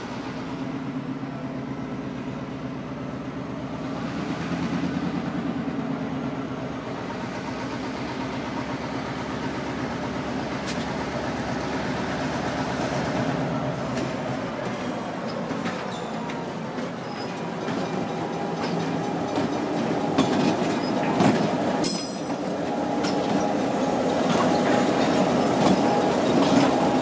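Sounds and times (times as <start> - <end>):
diesel locomotive engines droning: 0.0 - 27.0.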